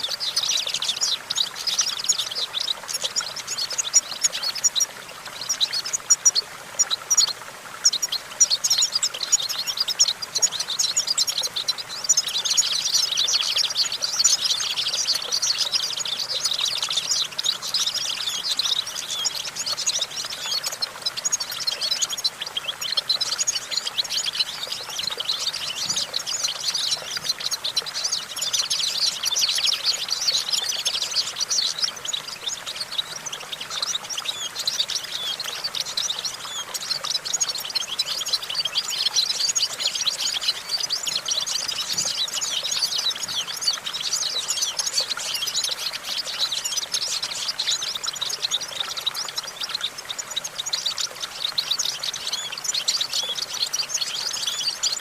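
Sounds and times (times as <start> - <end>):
goldfinch twittering song: 0.0 - 55.0.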